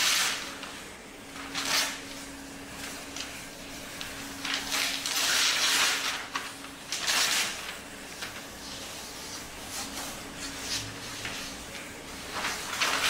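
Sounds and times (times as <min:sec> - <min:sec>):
paper sheets rustling: 0:00.0 - 0:13.0.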